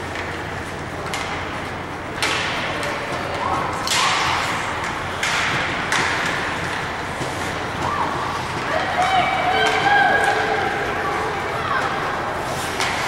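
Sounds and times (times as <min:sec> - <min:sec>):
skate and stick scrapes and hits: 0:00.0 - 0:13.0.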